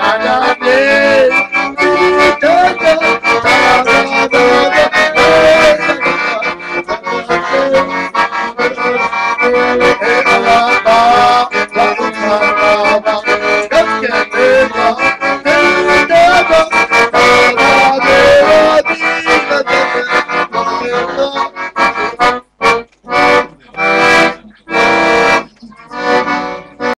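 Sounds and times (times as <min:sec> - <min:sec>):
piano accordion playing: 0:00.0 - 0:27.0.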